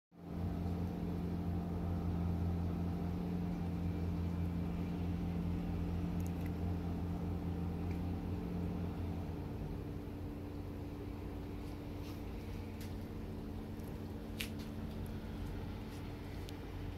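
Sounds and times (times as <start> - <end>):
motor humming: 0.3 - 16.9.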